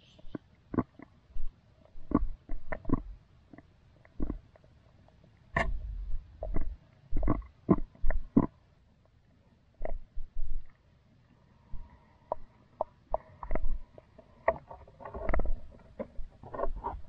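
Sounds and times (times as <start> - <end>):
muffled underwater knocks and gurgles: 0.2 - 4.6, 5.6 - 8.6, 9.8 - 10.8, 11.8 - 17.0.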